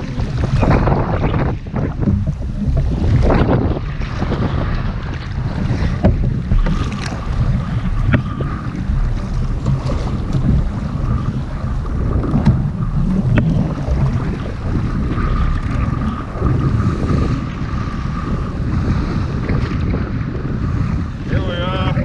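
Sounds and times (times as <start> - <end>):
choppy sea washing: 0.0 - 22.0
wind buffeting microphone: 0.0 - 22.0.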